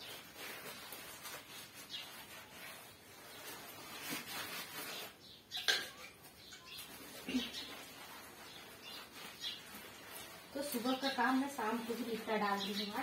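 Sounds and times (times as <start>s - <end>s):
hand smearing mud plaster: 0.0s - 5.2s, 7.0s - 13.0s.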